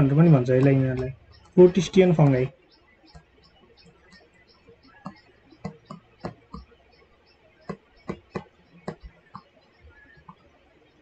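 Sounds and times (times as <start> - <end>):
stylus clicking on tablet screen: 0.5 - 10.6.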